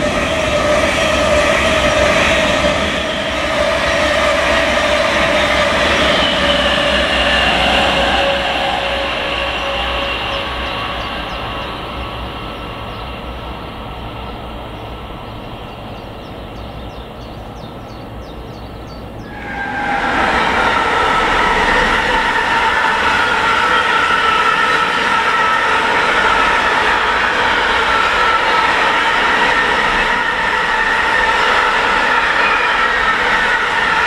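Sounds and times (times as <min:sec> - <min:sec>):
distant electric train: 0:00.0 - 0:34.0.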